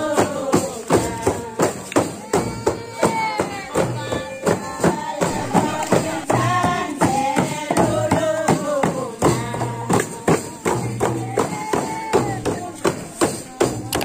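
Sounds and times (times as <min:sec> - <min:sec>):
frame drums beat: 0:00.0 - 0:14.0
person singing devotional song: 0:00.0 - 0:14.0.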